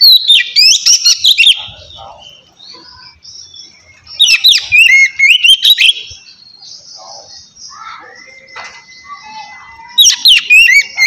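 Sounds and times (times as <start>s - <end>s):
bird twittering: 0.0s - 11.0s
magpie-robin singing whistled notes: 0.0s - 11.0s.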